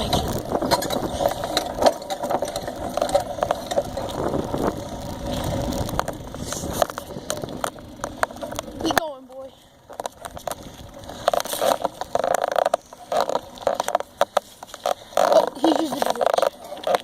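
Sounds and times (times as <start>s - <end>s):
bicycle rattling and clicking: 0.0s - 17.0s
tyre and road noise: 0.0s - 17.0s.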